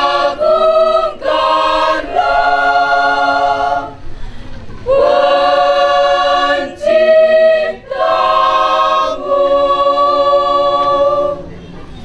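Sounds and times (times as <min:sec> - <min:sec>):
choir singing a cappella: 0:00.0 - 0:04.2, 0:04.8 - 0:11.6.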